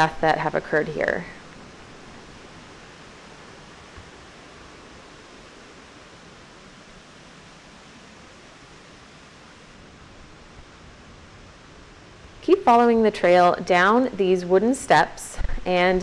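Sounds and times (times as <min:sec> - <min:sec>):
river and waterfall rushing: 0:00.0 - 0:14.0.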